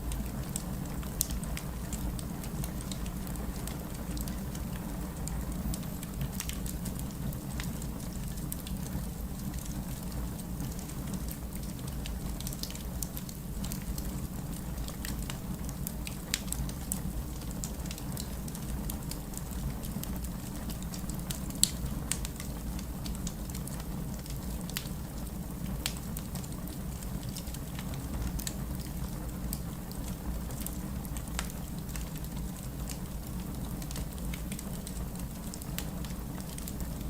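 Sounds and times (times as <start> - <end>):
heavy rain: 0.0 - 37.0
wood fire crackling: 0.0 - 37.0.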